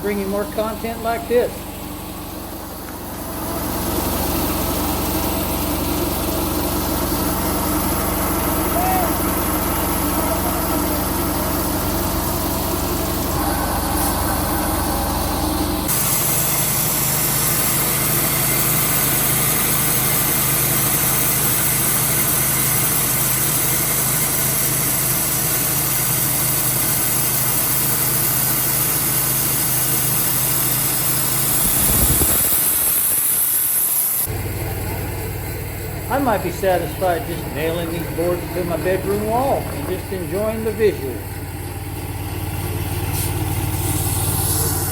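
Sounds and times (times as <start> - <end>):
sawmill engine running: 0.0 - 44.9.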